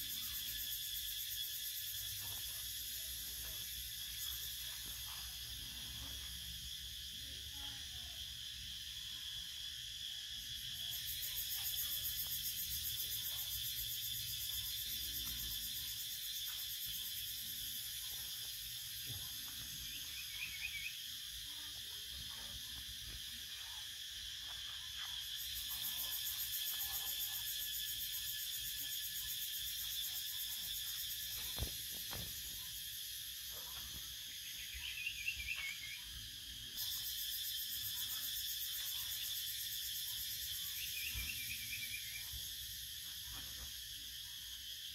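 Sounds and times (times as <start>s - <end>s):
insects buzzing chorus: 0.0s - 44.9s.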